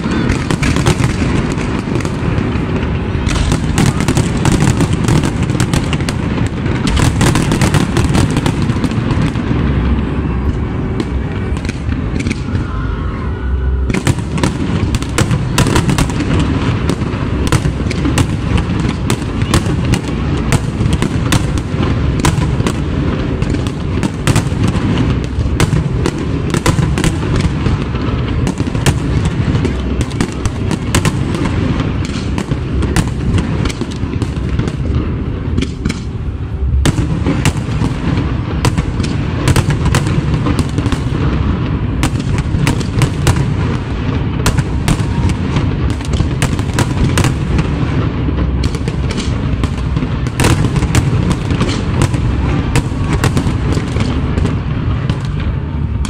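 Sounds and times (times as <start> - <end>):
low rumble: 0.0 - 19.5, 20.1 - 56.0
fireworks bursting and crackling: 0.0 - 56.0.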